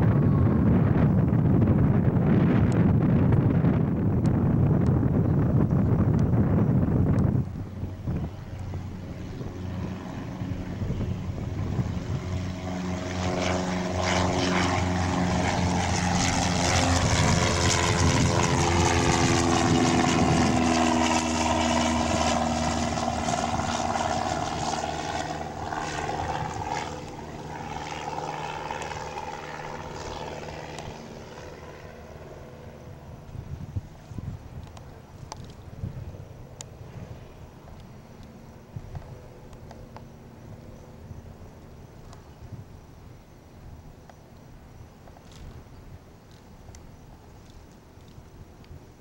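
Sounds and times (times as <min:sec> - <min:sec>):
light aircraft engine and propeller: 0:00.0 - 0:49.0.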